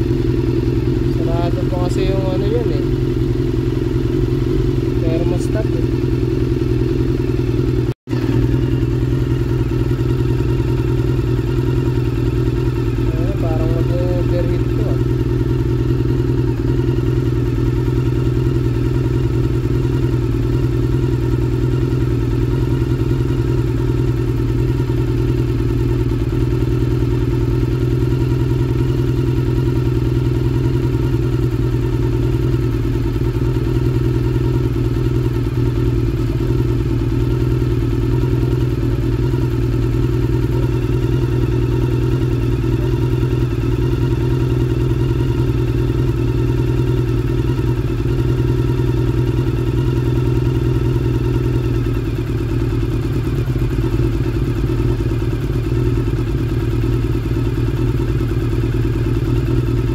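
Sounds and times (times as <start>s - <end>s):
scooter engine idling: 0.0s - 59.9s.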